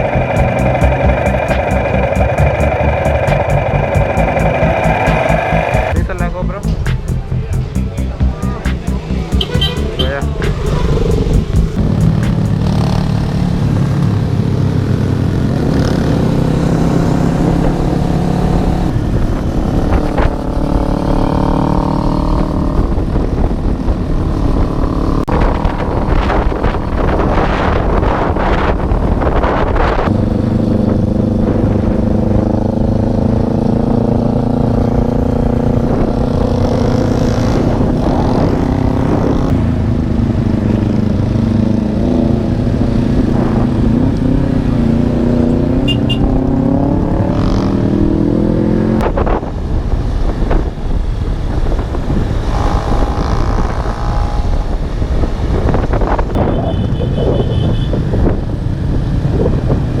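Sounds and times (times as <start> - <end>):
motorcycle engine accelerating: 0.0 - 56.3
wind on microphone: 0.0 - 60.0.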